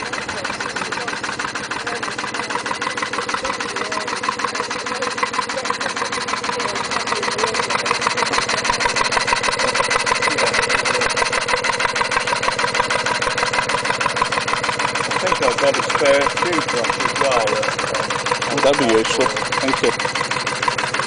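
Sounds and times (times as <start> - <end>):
steam engine mechanical beat: 0.0 - 21.0.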